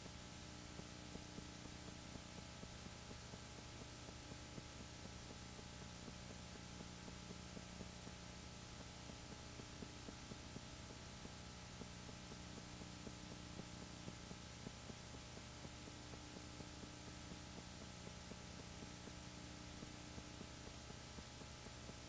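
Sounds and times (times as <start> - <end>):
film projector humming and ticking: 0.0 - 22.0.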